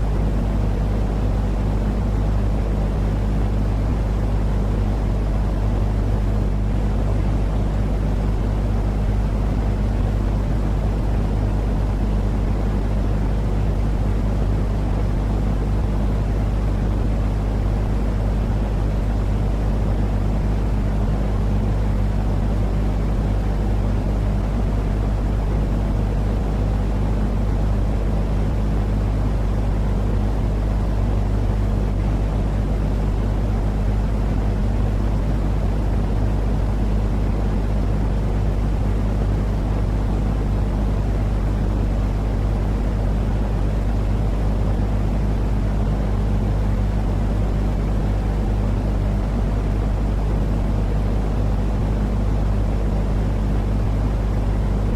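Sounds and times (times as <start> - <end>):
low rumbling white noise: 0.0 - 54.9
steady hum: 0.0 - 54.9.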